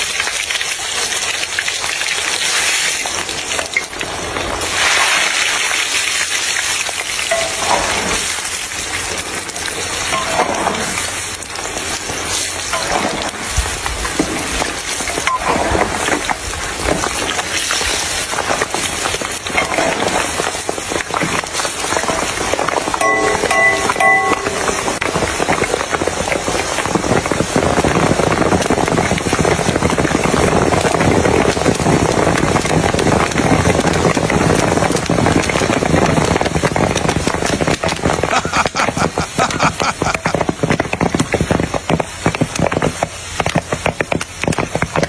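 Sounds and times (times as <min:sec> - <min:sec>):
popcorn popping in hot oil: 0:00.0 - 0:45.0.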